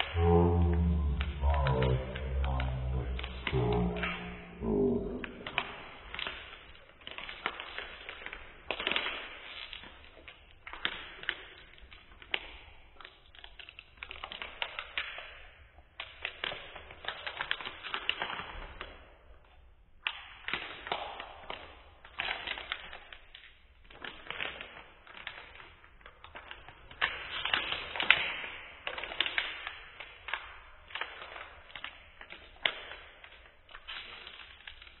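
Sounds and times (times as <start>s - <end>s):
foil wrapper crinkling and tearing: 4.7s - 19.1s, 20.0s - 35.0s.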